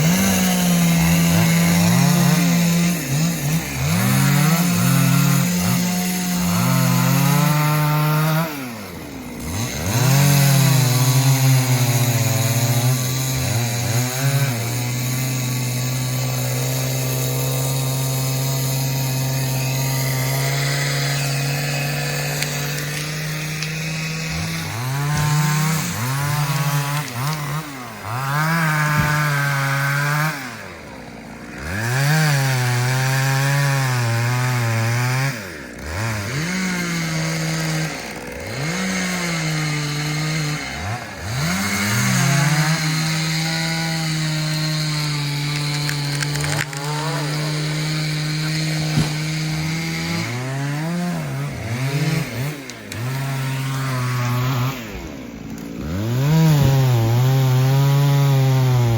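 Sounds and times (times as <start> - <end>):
chainsaw cutting tree: 0.0 - 58.9.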